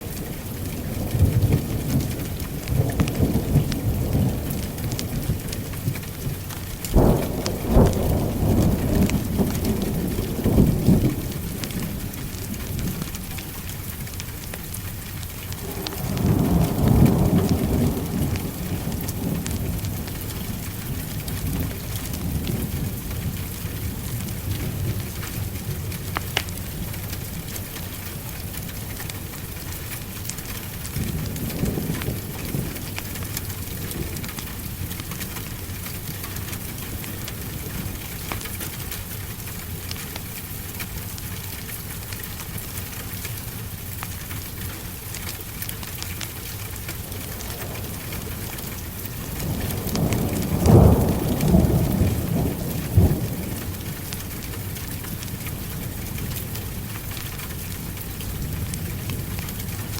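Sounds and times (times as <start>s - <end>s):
thunder cracking and rumbling: 0.0s - 39.8s, 46.3s - 59.9s
heavy rain: 0.0s - 59.9s.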